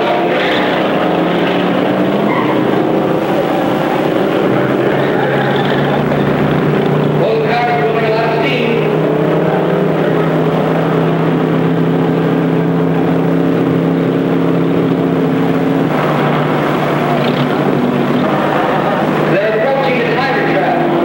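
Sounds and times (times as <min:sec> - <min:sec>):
engine droning hum: 0:00.0 - 0:21.0.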